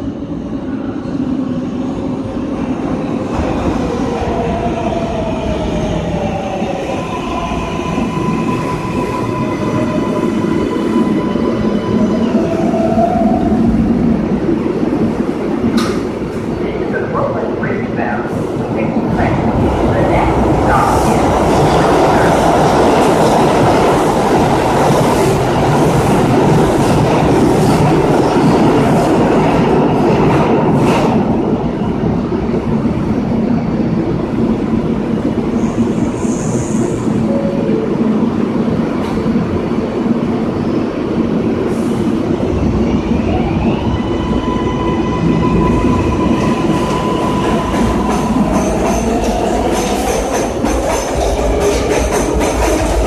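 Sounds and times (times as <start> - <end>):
train wheel-on-rail rumble: 0.0 - 53.0.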